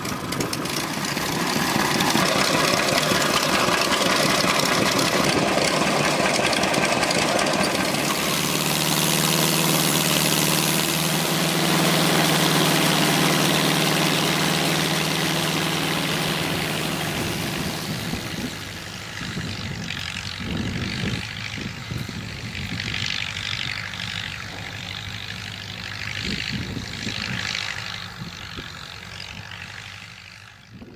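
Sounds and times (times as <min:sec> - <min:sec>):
engine drone: 0:00.0 - 0:30.9.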